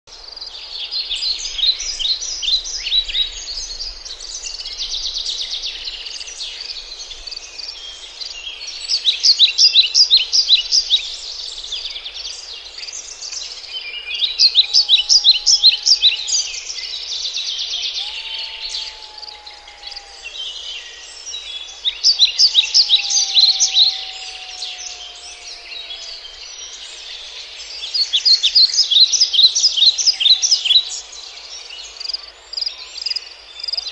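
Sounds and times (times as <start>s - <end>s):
birds chirping: 0.4s - 33.9s.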